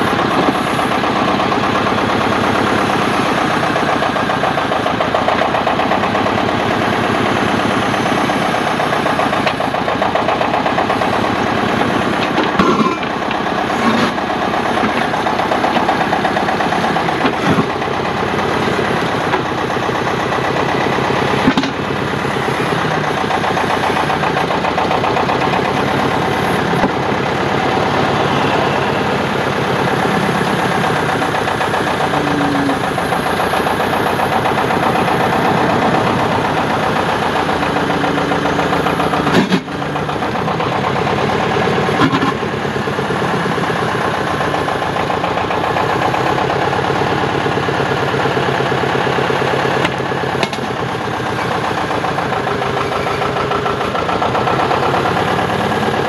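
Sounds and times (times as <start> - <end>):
digger engine running: 0.0 - 56.0.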